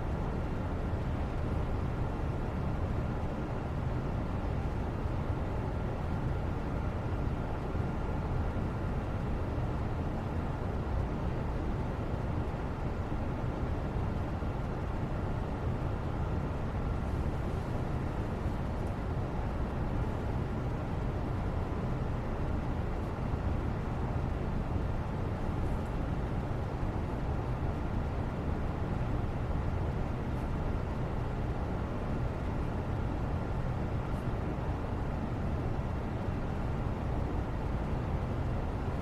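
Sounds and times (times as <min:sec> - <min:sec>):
low rumbling background noise: 0:00.0 - 0:39.0.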